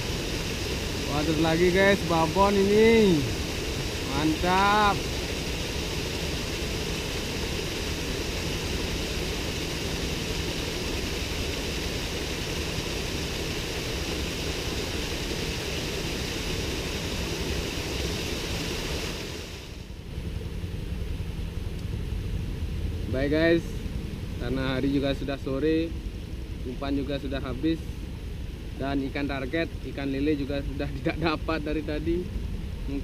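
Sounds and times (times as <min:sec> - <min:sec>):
waterfall and river rushing: 0:00.0 - 0:21.0, 0:22.4 - 0:33.0
open-air ambience: 0:00.0 - 0:33.0.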